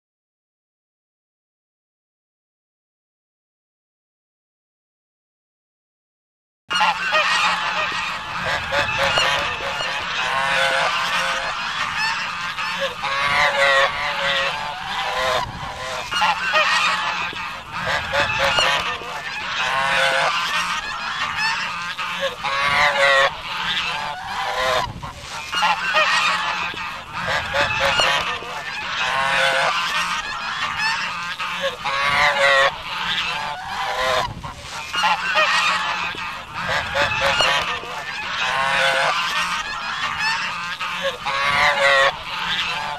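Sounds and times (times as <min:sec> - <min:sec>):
geese honking: 0:06.7 - 0:42.9.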